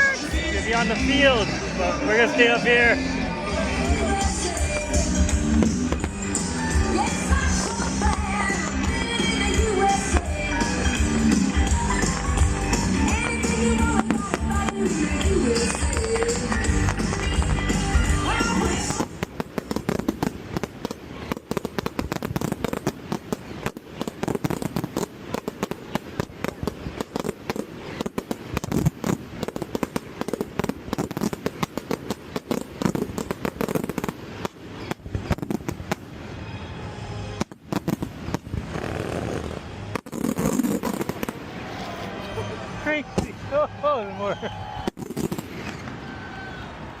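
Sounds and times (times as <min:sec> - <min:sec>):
fireworks bangs and crackles: 0:00.0 - 0:03.0, 0:03.6 - 0:46.7.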